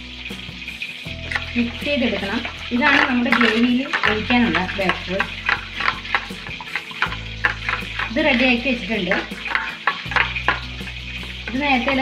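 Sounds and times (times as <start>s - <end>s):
spoon stirring in steel bowl: 1.1s - 12.0s.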